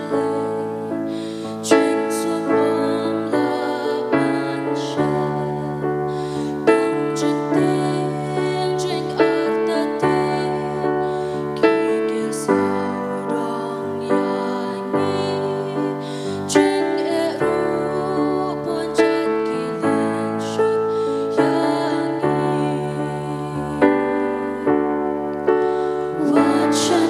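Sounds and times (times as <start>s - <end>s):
female vocal trio singing: 0.0s - 27.0s.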